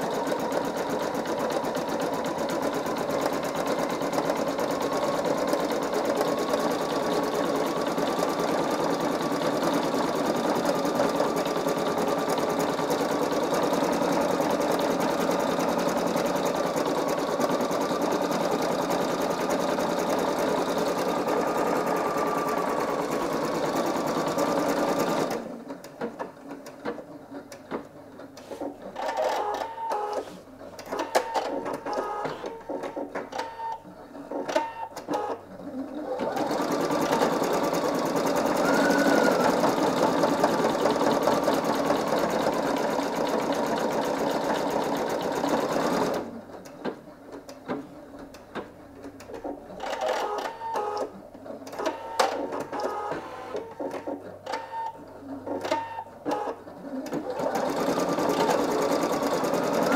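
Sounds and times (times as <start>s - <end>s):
embroidery machine stitching: 0.0s - 59.9s.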